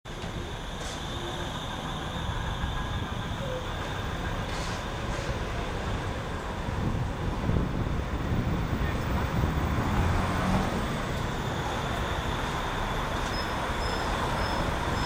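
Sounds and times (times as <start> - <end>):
tram rumble and whine: 0.1 - 15.0.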